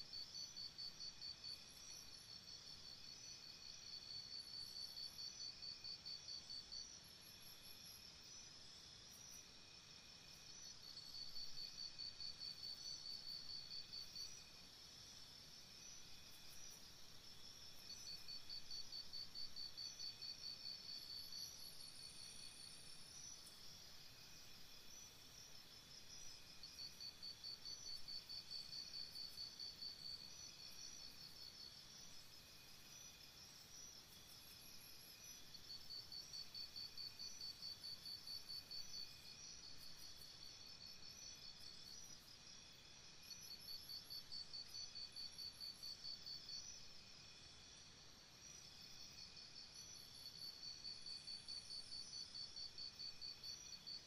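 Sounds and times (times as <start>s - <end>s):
faint steady hiss: 0.0s - 54.0s
insect chorus: 0.0s - 54.0s.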